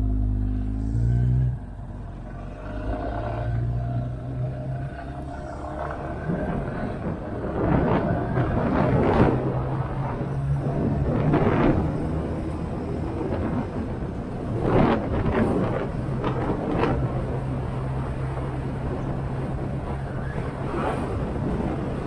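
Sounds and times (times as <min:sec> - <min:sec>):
wind rushing over microphone: 0:03.5 - 0:22.0.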